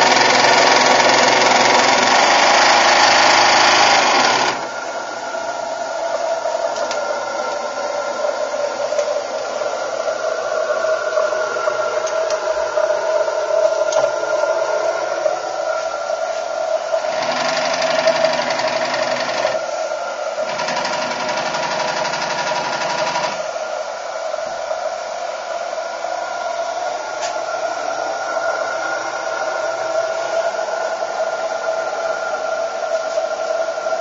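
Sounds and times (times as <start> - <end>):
steady whirring hum: 0.0 - 34.0.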